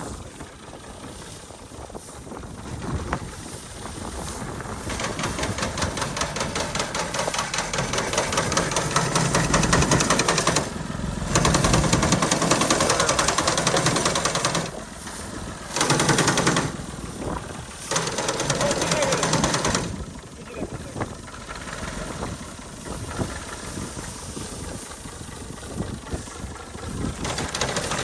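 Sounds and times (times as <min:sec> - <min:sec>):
reaper mechanical clatter: 0:00.0 - 0:28.0
tractor diesel engine under load: 0:00.0 - 0:28.0.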